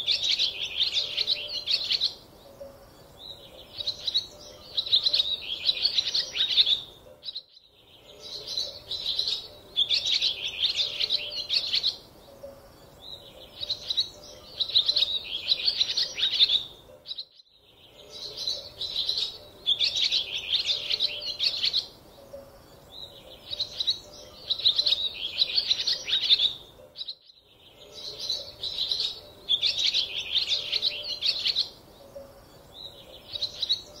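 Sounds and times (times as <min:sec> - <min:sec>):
songbirds chirping and twittering: 0:00.0 - 0:34.0.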